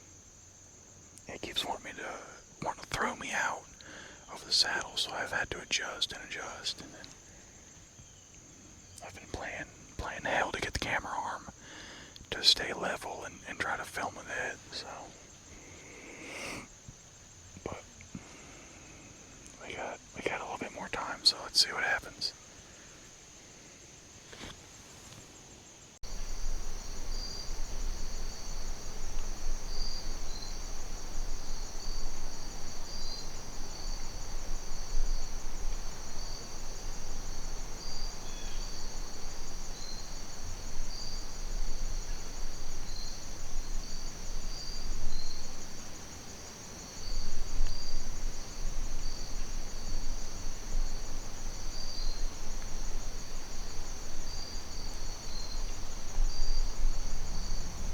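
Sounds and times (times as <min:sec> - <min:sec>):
crickets trilling: 0:00.0 - 0:57.9
insects pulsing chirps: 0:00.0 - 0:57.9.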